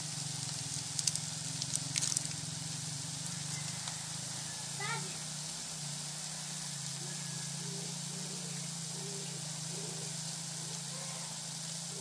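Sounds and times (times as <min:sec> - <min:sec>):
even hiss: 0:00.0 - 0:12.0
low engine-like hum: 0:00.0 - 0:12.0.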